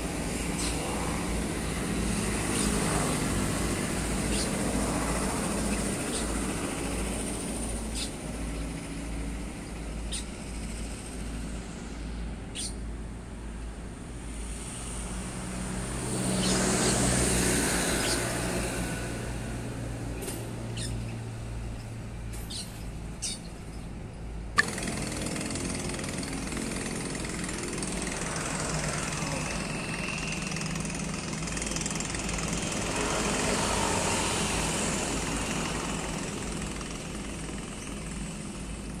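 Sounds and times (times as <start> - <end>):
tugboat diesel engines running: 0.0 - 39.0.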